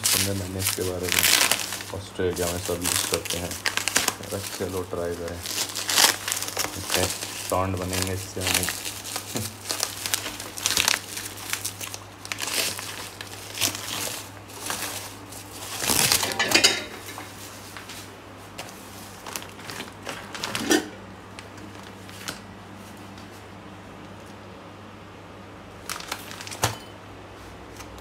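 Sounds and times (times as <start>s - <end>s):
plastic packaging crinkling: 0.0s - 23.4s, 25.7s - 26.9s.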